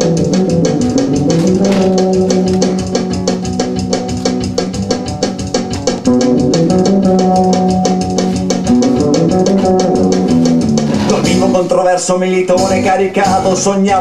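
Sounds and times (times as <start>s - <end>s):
electric guitar: 0.0s - 11.8s
bass guitar: 0.0s - 14.0s
drum kit beat: 0.0s - 14.0s.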